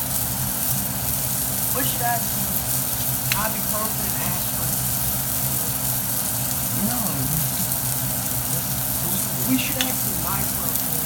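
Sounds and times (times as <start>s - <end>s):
fish sizzling in a pan: 0.0s - 11.0s
low steady hum: 0.0s - 11.0s.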